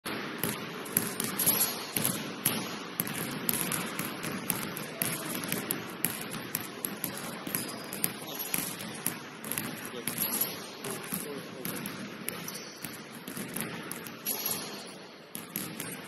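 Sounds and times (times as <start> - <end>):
gym background noise: 0.0 - 16.0
basketball bouncing: 0.1 - 16.0.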